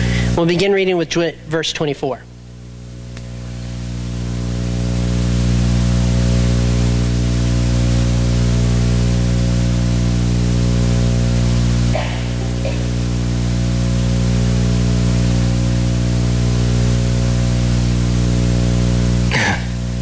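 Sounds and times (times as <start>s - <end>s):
electrical hum and static: 0.0s - 20.0s.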